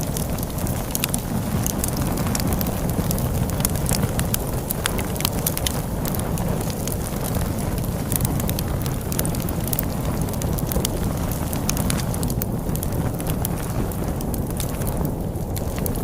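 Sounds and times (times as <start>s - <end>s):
storm wind rumble: 0.0s - 16.0s
wood fire crackling and popping: 0.0s - 16.0s.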